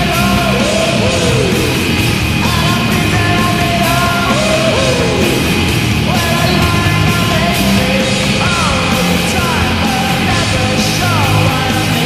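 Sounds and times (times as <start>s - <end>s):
loud rock music with vocals: 0.0s - 12.0s.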